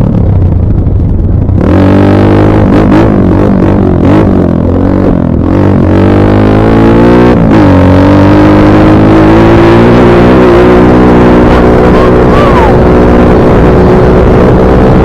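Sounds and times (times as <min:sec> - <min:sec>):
dirt bike engine revving: 0:01.5 - 0:15.0.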